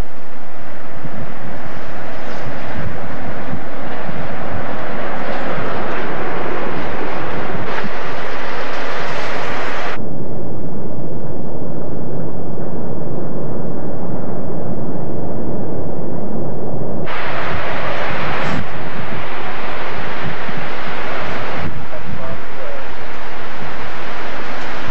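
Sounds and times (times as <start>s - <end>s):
wind blowing across microphone: 0.0s - 24.9s.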